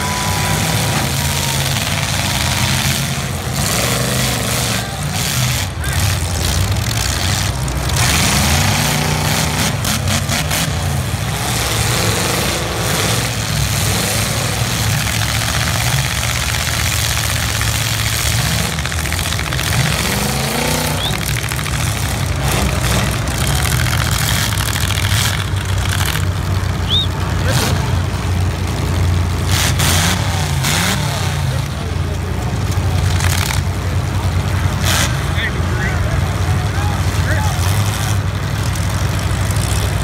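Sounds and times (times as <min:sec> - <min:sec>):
car engines revving: 0:00.0 - 0:40.0
cars grinding against each other: 0:00.0 - 0:40.0.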